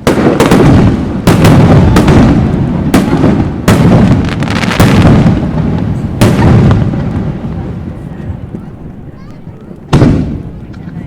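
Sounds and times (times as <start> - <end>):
firework shells booming: 0.0 - 9.0, 9.8 - 11.0.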